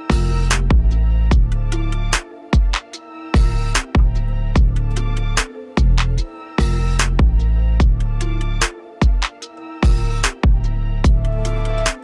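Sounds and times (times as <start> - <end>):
electronic beat music: 0.0 - 12.0.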